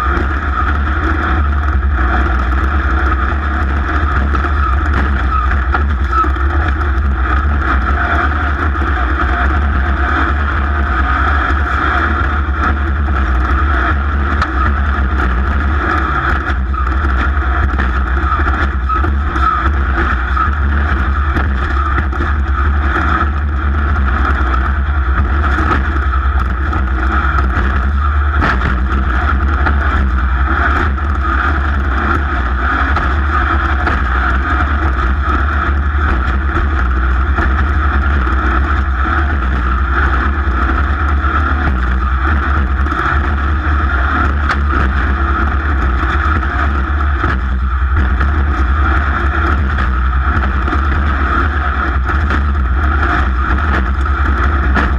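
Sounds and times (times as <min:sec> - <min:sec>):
racing engine running: 0:00.0 - 0:54.9.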